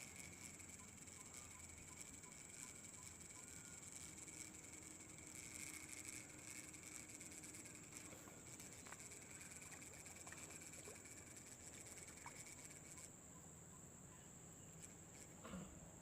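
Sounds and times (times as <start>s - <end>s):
faint ticks: 0.0s - 15.8s
insects chirring: 0.0s - 16.0s.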